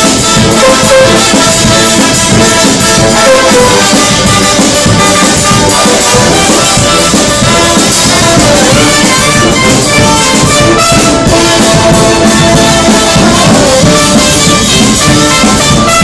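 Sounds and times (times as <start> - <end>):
brass: 0.0 - 16.0
drums: 0.0 - 16.0
sousaphone: 0.0 - 16.0
trumpets: 0.0 - 16.0.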